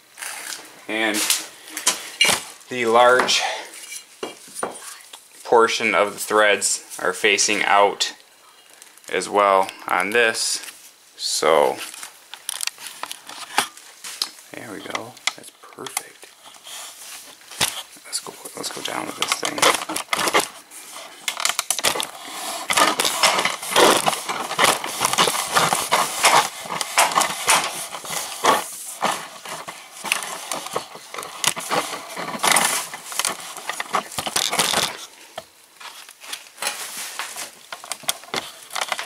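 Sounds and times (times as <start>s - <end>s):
handling noise on microphone: 0.0s - 5.0s, 9.3s - 39.0s.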